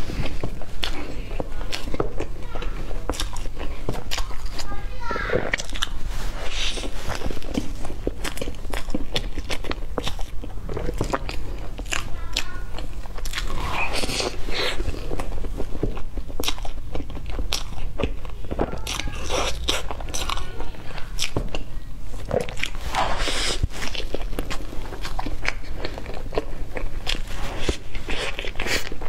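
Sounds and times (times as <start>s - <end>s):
soft chewing: 0.0s - 29.0s.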